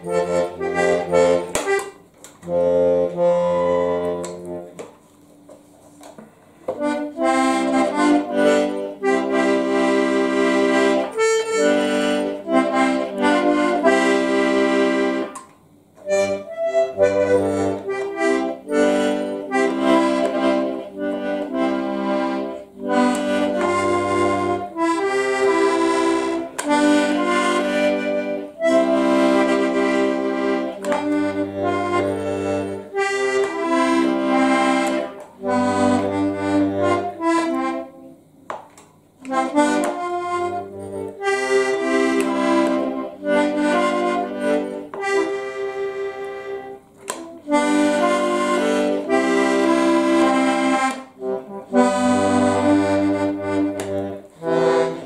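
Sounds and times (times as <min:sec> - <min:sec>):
button accordion playing chords: 0:00.0 - 0:55.0.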